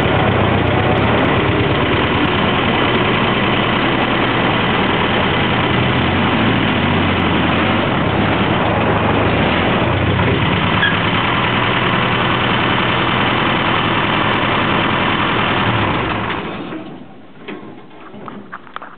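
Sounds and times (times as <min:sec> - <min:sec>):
car engine running: 0:00.0 - 0:16.7.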